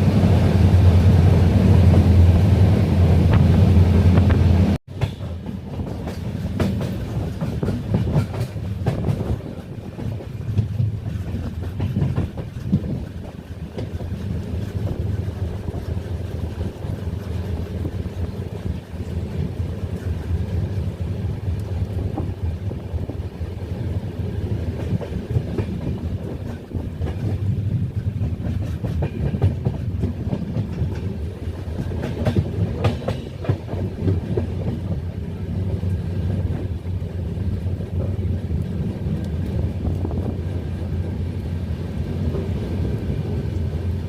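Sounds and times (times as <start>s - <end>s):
train wheels clattering on rails: 3.3s - 44.0s.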